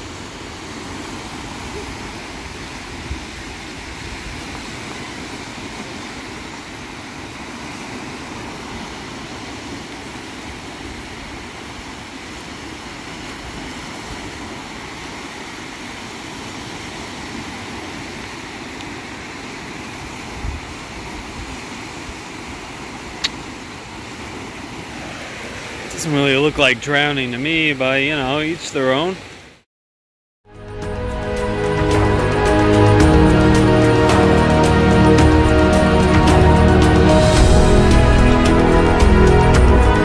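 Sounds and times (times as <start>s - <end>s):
small waves washing onto shore: 0.0s - 29.6s, 30.8s - 40.0s.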